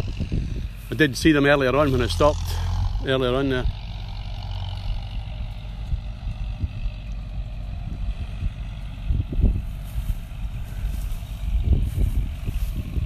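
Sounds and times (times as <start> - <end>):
tractor engine rumble: 0.0 - 13.0.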